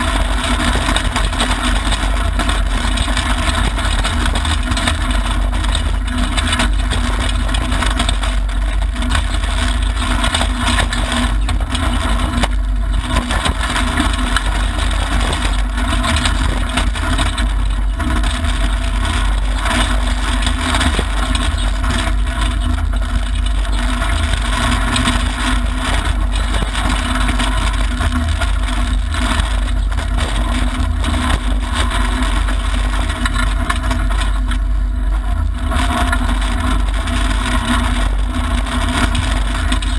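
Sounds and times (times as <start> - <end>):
car engine running hard: 0.0 - 39.9
tyre and gravel noise: 0.0 - 39.9.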